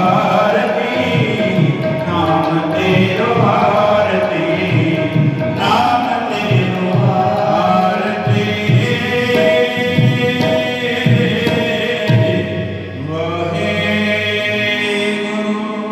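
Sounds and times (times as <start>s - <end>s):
tabla strokes: 0.0s - 13.0s
man chanting: 0.0s - 15.9s.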